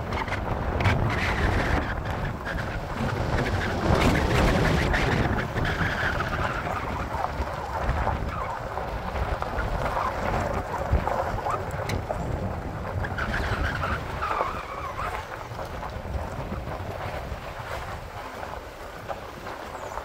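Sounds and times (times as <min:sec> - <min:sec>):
vehicle engine and tyres rumbling: 0:00.0 - 0:20.0
wind buffeting microphone: 0:00.0 - 0:20.0.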